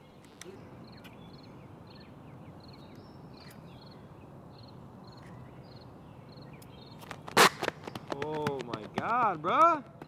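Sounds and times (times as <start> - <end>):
birds chirping: 0.0 - 10.0
low outdoor hum: 0.0 - 10.0.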